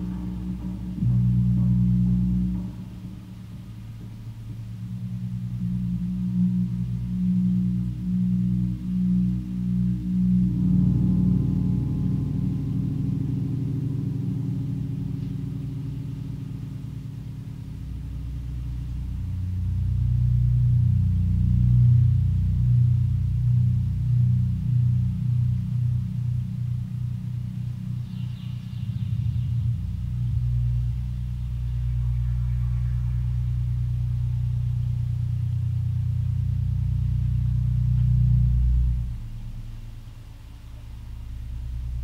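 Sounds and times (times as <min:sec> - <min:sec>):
ambient electronic music: 0:00.0 - 0:42.0
deep synthesizer drone: 0:00.0 - 0:42.0.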